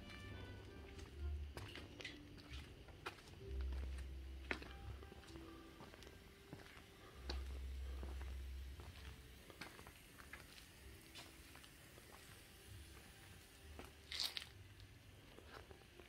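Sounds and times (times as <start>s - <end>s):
faint footsteps: 0.0s - 16.0s.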